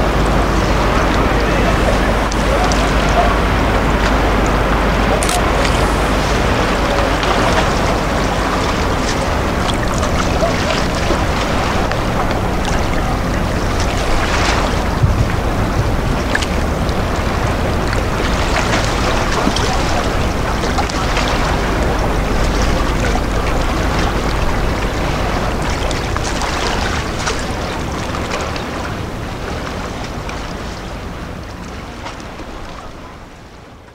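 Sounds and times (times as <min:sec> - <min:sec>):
wind buffeting microphone: 0:00.0 - 0:33.5
steady low hum: 0:00.0 - 0:33.7
sea waves: 0:00.0 - 0:33.9.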